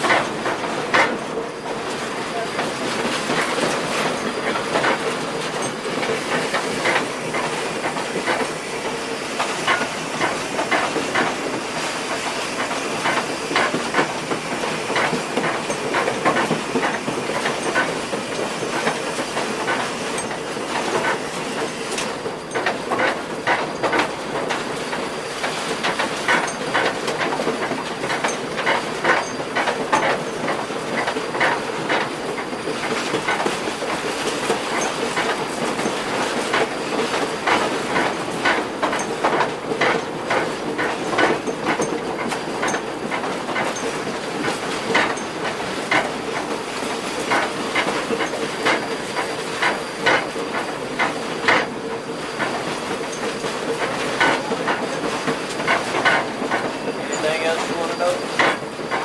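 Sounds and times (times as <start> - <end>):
train running hiss: 0.0 - 59.0
train wheels clicking over rail joints: 0.0 - 59.0.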